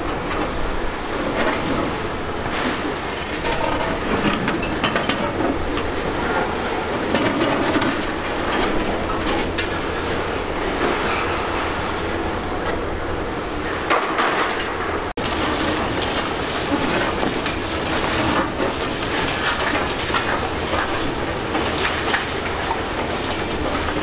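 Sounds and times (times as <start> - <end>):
heavy demolition machinery running: 0.0 - 24.0.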